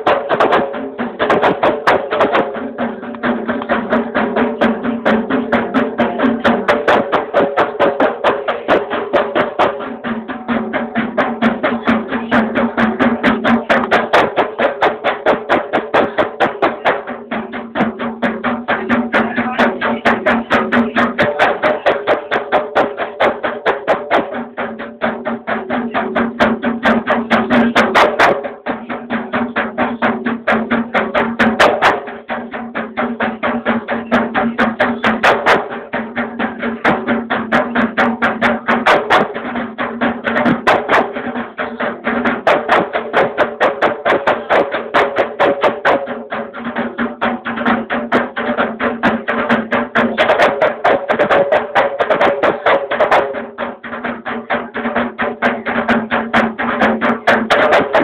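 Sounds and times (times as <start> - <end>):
hand-struck frame drums: 0.0 - 58.0.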